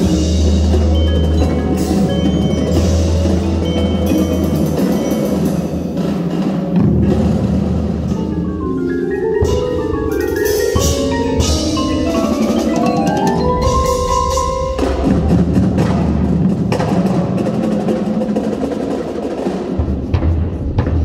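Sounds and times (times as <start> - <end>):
marimbas and vibraphones playing: 0.0 - 18.8.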